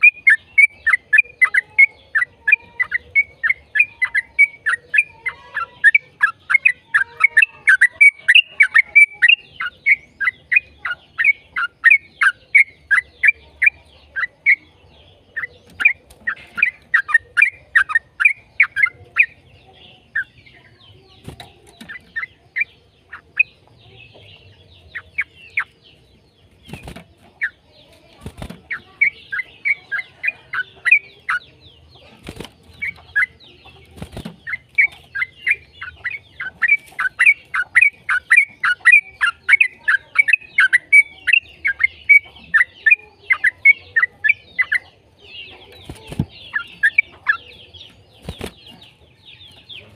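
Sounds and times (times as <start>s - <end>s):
bird chattering song: 0.0s - 49.9s.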